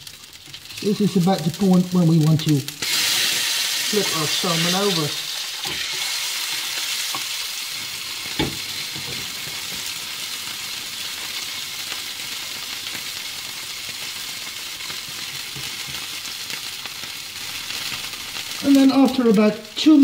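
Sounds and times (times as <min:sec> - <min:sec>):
fish sizzling in a frying pan: 0:00.0 - 0:20.0.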